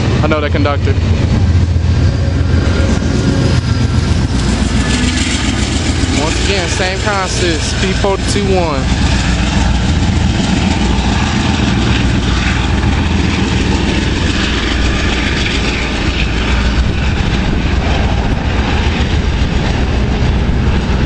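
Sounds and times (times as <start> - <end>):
diesel locomotive engine drone: 0.0 - 21.0
train wheels rolling on rails: 0.0 - 21.0.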